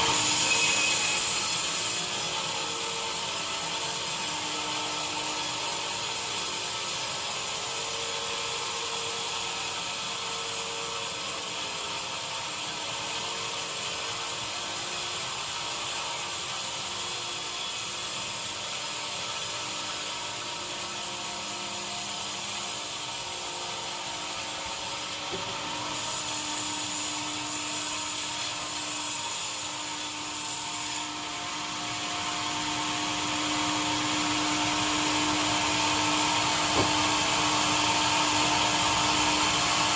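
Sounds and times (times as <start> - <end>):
sawmill machinery sawing wood: 0.0 - 39.9.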